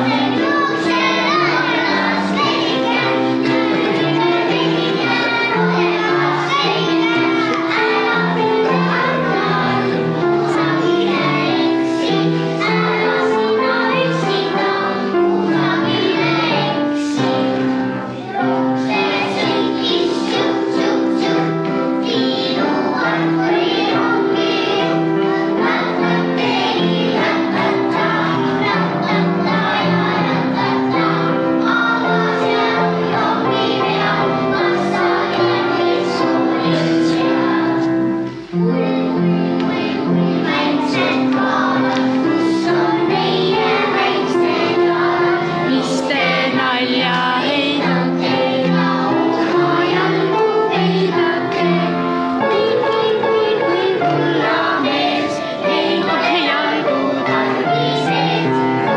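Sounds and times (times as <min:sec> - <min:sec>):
children singing: 0:00.0 - 0:58.9
musical accompaniment: 0:00.0 - 0:58.9.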